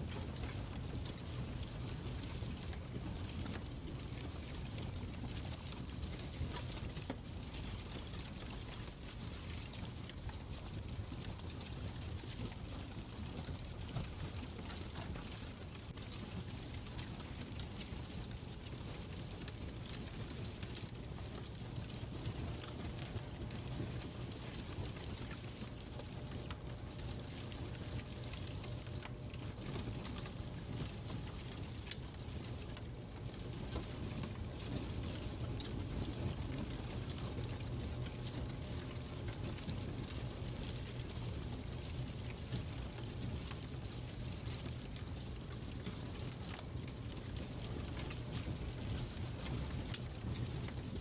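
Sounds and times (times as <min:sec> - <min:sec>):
fire popping and snapping: 0:00.0 - 0:51.0
fireplace crackling: 0:00.0 - 0:51.0.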